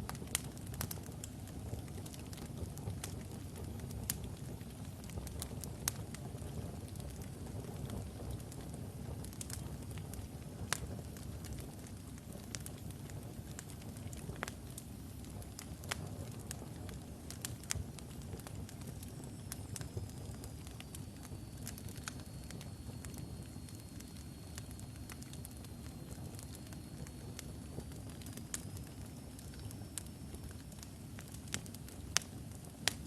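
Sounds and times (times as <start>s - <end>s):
fire low rumble: 0.0s - 33.0s
logs crackling and popping: 0.0s - 33.0s.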